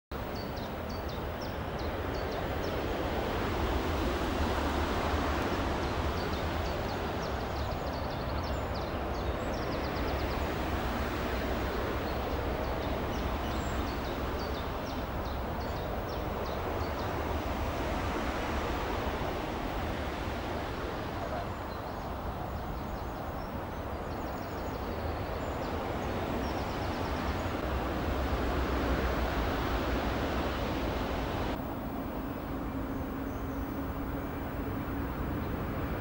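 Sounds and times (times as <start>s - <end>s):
outdoor background rumble and hiss: 0.1s - 36.0s.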